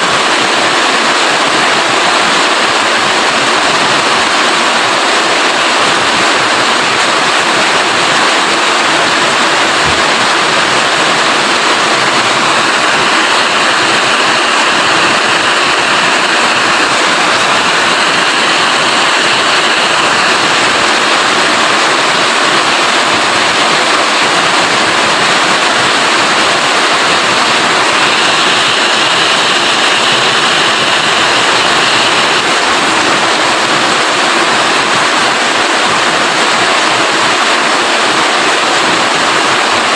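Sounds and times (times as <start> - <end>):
loud rainfall: 0.0 - 39.9.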